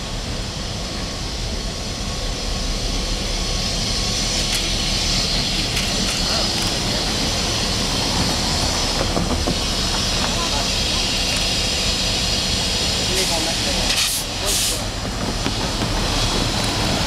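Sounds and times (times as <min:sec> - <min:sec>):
locomotive engine rumbling: 0:00.0 - 0:17.0
hiss: 0:00.4 - 0:17.0.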